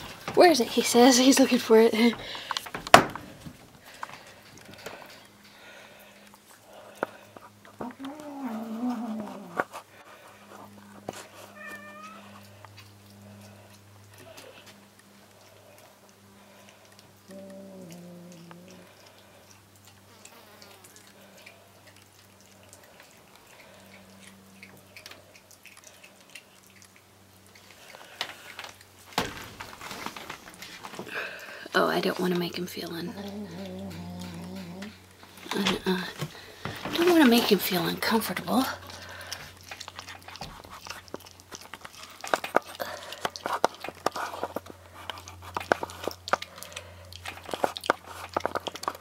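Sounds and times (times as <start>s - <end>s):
animal gnawing bone: 0.0s - 49.0s
low steady hum: 0.0s - 49.0s.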